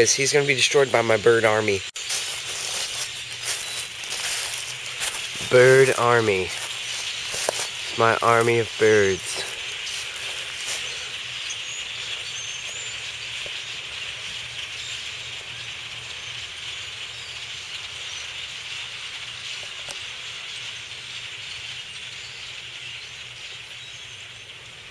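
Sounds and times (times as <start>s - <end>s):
flock of birds chattering: 0.0s - 24.9s.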